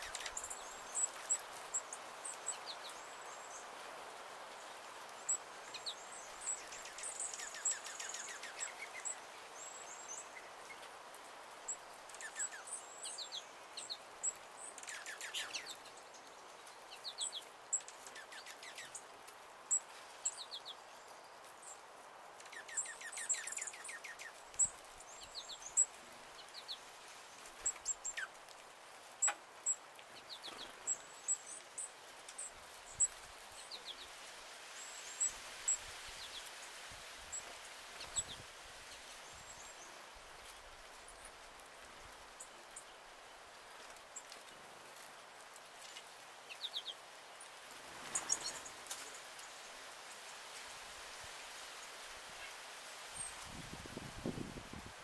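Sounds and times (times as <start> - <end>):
songbirds chipping: 0.0 - 50.4
background hiss: 0.0 - 55.0.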